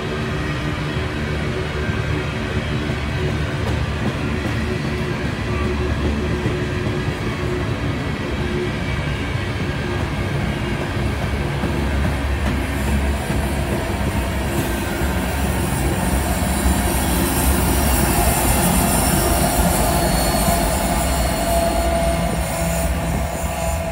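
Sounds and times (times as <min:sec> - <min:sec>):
diesel locomotive engine rumble: 0:00.0 - 0:23.9
train wheel and rail noise: 0:00.0 - 0:23.9.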